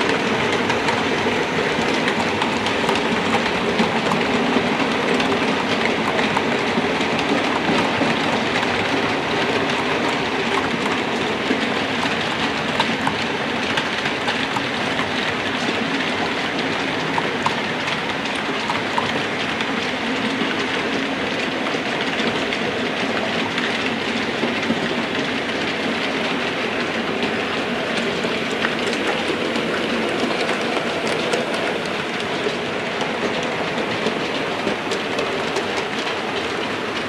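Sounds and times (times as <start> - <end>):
model trains running on track: 0.0 - 37.0
wheels clicking over rail joints: 0.0 - 37.0.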